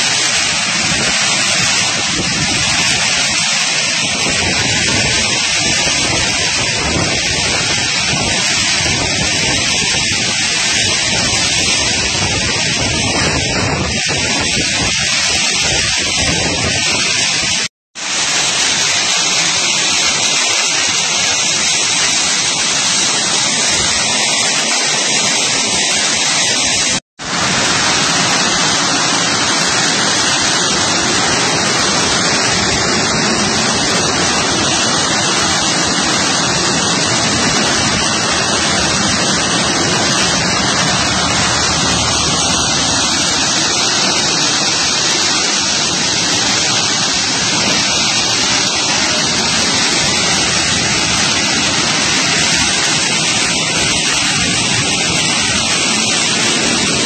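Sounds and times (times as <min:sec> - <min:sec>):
heavy driving rain: 0:00.0 - 0:57.0
strong wind: 0:00.0 - 0:57.0.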